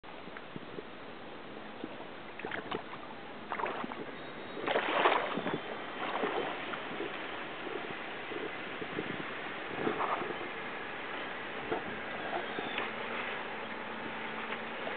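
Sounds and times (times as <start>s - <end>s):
water sloshing and splashing: 1.7s - 14.9s.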